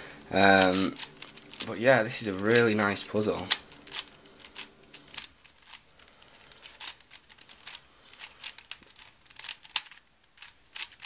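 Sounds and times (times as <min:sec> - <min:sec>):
plastic puzzle clicks and clacks: 0:00.4 - 0:11.0.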